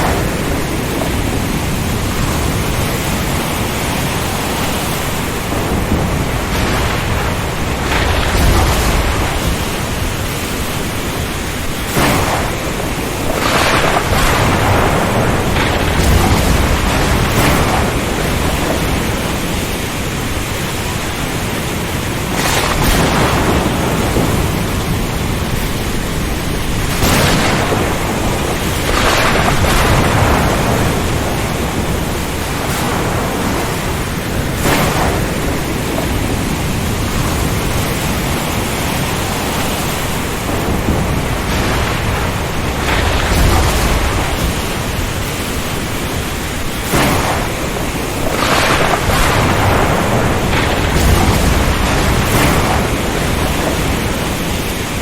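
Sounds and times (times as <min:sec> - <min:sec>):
heavy rain: 0:00.0 - 0:55.0
thunder: 0:00.0 - 0:55.0
wind rushing: 0:00.0 - 0:55.0.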